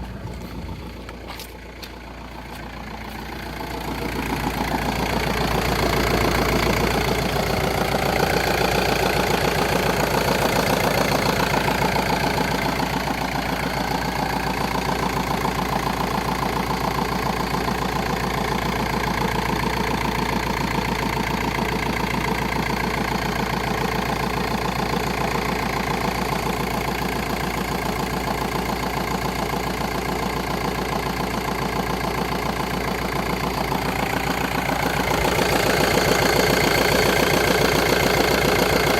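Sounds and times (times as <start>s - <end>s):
car engine idling: 0.0s - 38.9s
repetitive engine noise: 0.0s - 38.9s.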